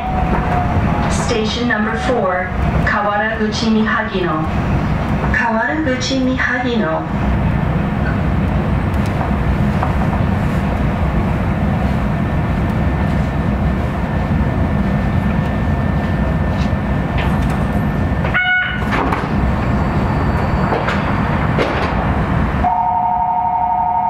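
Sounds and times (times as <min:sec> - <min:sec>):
monorail car rumble: 0:00.0 - 0:24.0.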